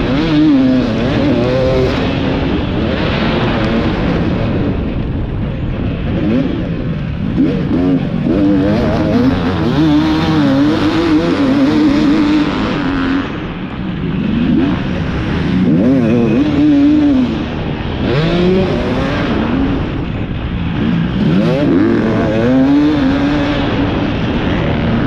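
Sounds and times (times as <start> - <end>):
motocross bike engine revving: 0.0 - 5.0, 5.8 - 25.0.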